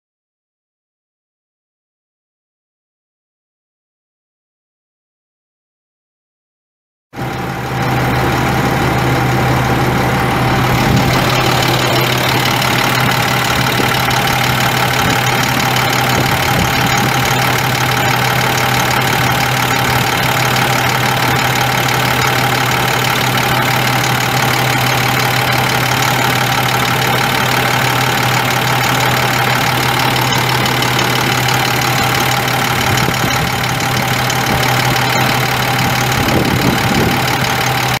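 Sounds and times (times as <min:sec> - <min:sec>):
engine running with low hum: 0:07.2 - 0:38.0.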